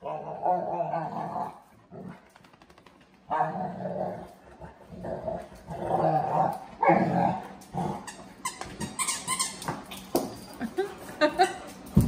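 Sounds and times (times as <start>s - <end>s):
dogs play-fighting and growling: 0.0s - 12.0s.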